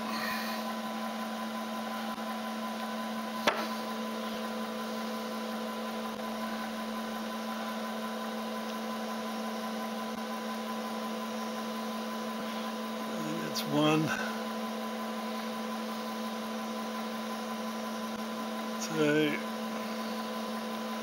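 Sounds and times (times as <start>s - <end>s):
milling machine humming: 0.0s - 21.0s.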